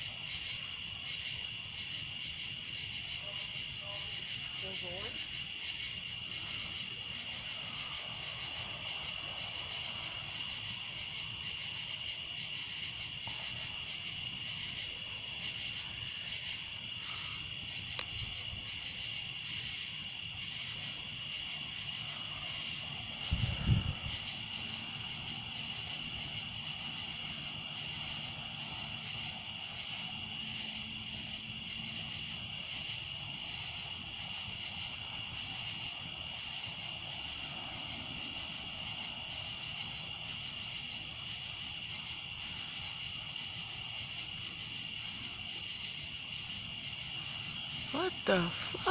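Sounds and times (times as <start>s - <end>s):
crickets trilling and chirping: 0.0s - 48.9s.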